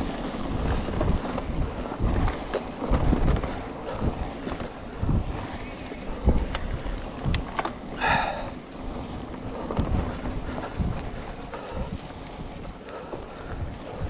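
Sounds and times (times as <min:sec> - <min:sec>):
bike thumps and rattles: 0:00.0 - 0:07.9, 0:09.4 - 0:14.0
tyres rolling on dirt: 0:00.0 - 0:14.0
wind over microphone: 0:00.0 - 0:14.0.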